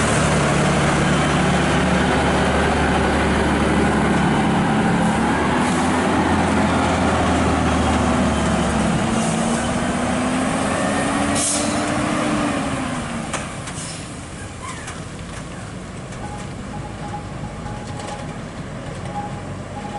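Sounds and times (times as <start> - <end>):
truck diesel engine passing: 0.0 - 19.9.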